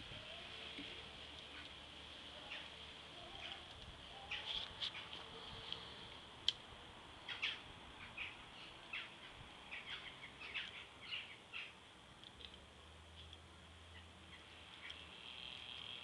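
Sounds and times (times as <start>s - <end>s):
small birds chirping: 0.0s - 12.6s, 13.2s - 16.0s.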